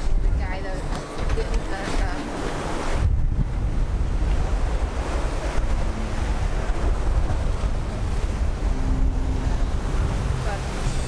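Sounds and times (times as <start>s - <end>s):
sea rushing along hull: 0.0s - 11.0s
wind buffeting microphone: 0.0s - 11.0s.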